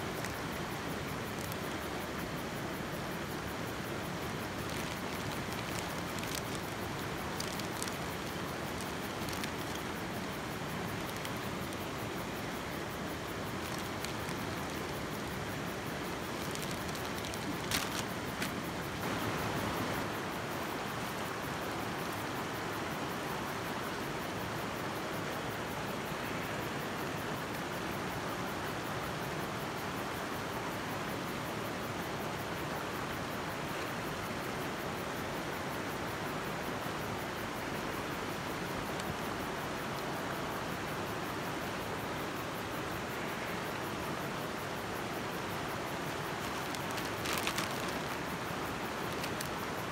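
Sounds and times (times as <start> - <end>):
creek water rushing: 0.0 - 49.9.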